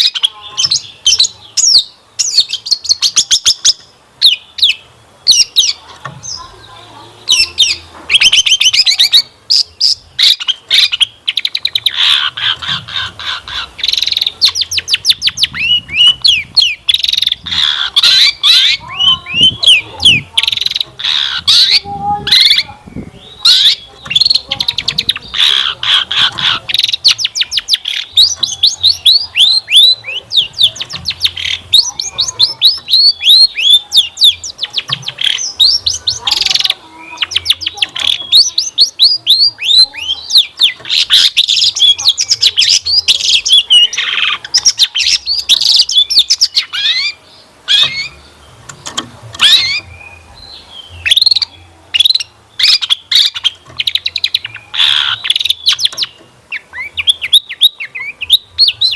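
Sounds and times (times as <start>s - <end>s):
shrike singing varied song: 0.0s - 58.9s.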